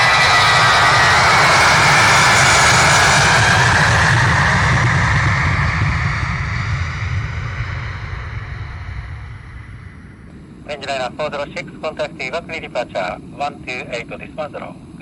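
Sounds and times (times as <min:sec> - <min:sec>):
jet engines at high thrust: 0:00.0 - 0:15.0.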